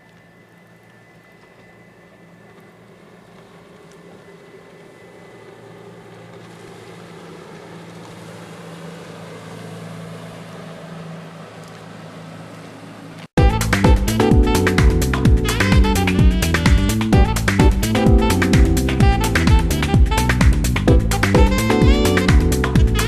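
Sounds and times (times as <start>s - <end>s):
outboard motor running: 0.0s - 23.0s.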